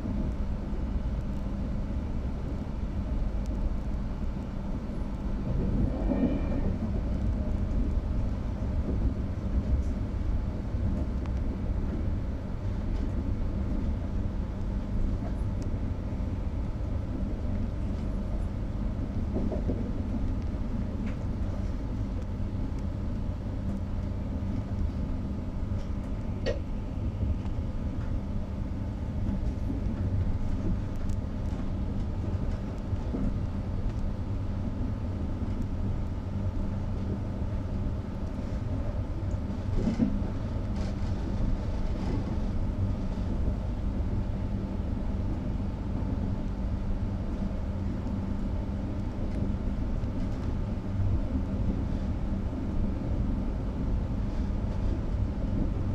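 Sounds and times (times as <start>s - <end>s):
train wheels rumbling on rail: 0.0s - 35.6s, 36.3s - 55.9s
low hum: 0.0s - 55.9s.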